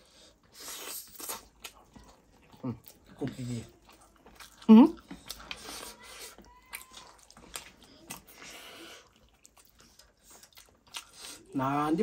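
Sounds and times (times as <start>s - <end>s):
chewing and mouth noises: 0.0s - 12.0s.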